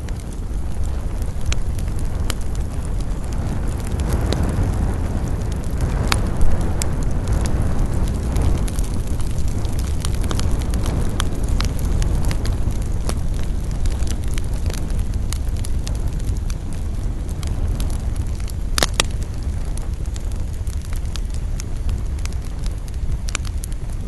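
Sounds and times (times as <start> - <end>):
campfire crackling and popping: 0.0 - 24.0
low rumble: 0.0 - 24.0.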